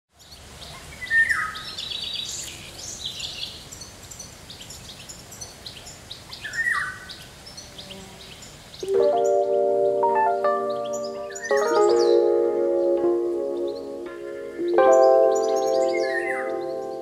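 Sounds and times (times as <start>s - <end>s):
birds chirping and calling: 0.7s - 17.0s.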